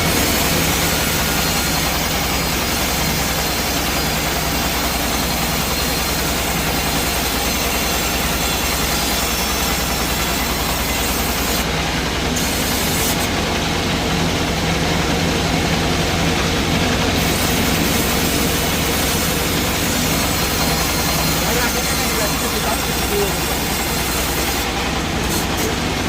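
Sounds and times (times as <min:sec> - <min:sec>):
sawmill machinery running: 0:00.0 - 0:26.0.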